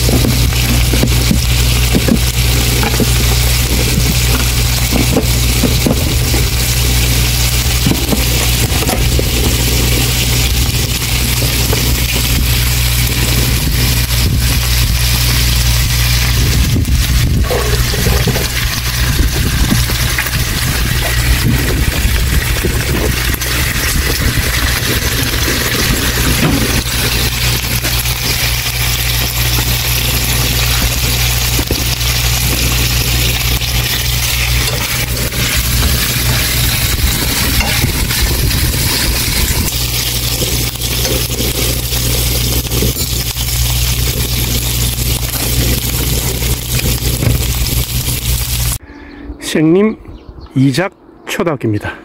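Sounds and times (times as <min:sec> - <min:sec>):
meat sizzling in a frying pan: 0:00.0 - 0:48.8
burner low rumble: 0:00.0 - 0:51.9.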